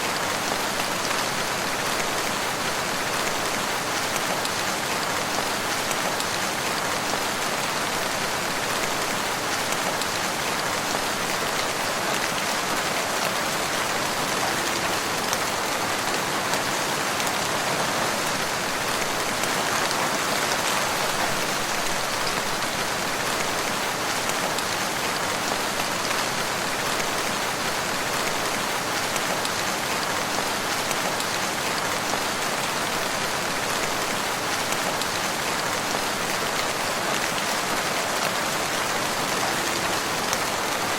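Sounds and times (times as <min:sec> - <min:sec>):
rain falling in woodland: 0:00.0 - 0:40.9.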